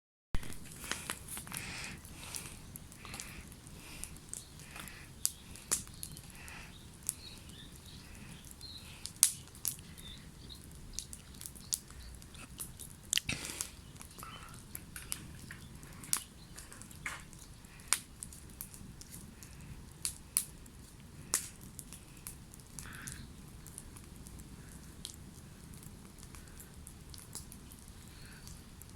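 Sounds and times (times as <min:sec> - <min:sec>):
campfire crackling and popping: 0:00.4 - 0:28.9.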